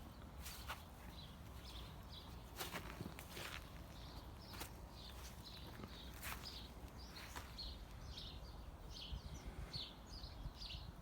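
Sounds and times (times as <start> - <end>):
sparrows cheeping: 0.0 - 11.0.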